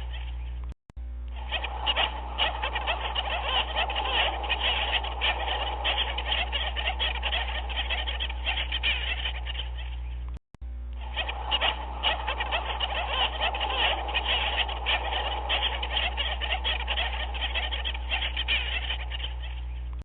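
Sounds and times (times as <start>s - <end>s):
chorus of animal calls: 0.0s - 0.6s, 1.3s - 10.3s, 11.0s - 20.0s.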